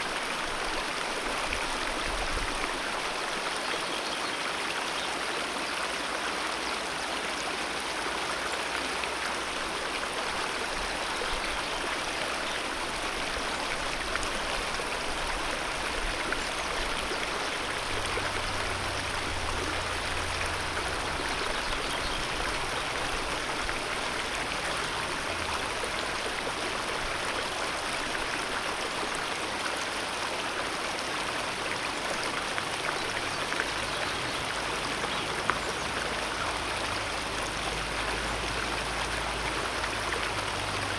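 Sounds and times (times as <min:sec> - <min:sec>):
river rushing over rocks: 0:06.7 - 0:40.9
water splashes and gurgles: 0:07.6 - 0:40.9.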